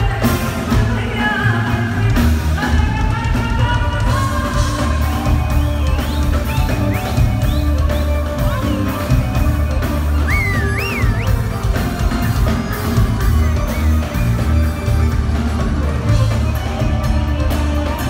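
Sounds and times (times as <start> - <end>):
bass and drum beat: 0.0 - 18.0
live band playing pop: 0.0 - 18.0.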